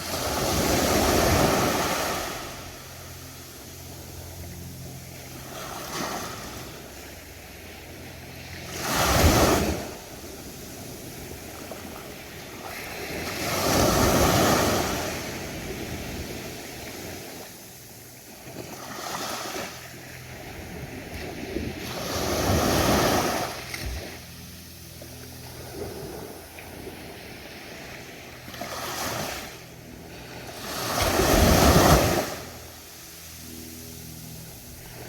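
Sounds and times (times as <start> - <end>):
waves breaking on beach: 0.0 - 35.0.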